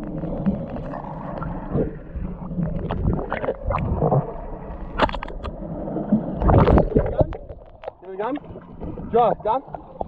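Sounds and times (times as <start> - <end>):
underwater sloshing and gurgling: 0.0 - 10.0.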